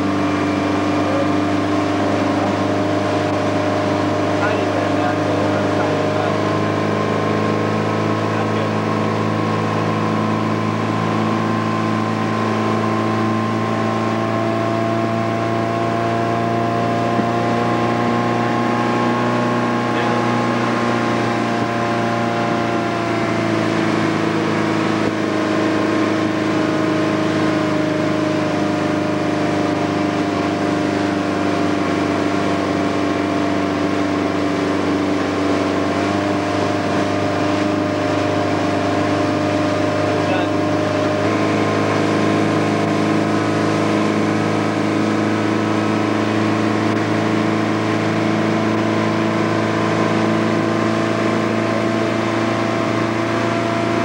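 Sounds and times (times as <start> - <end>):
motorboat engine humming: 0.0 - 54.0
water rushing from wake: 0.0 - 54.0.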